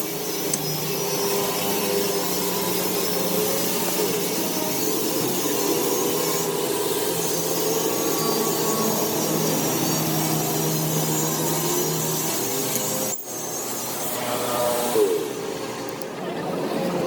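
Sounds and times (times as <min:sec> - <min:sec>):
power tool motor hum: 0:00.0 - 0:16.0.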